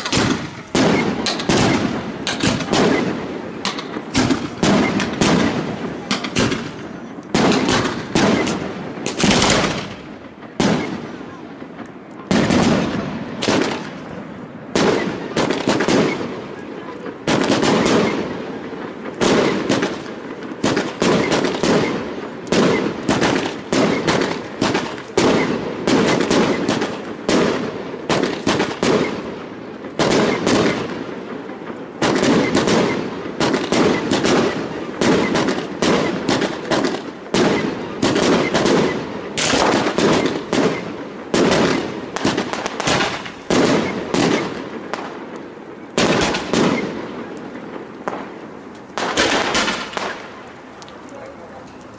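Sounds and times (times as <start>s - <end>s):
fireworks bangs and crackle: 0.0s - 51.9s.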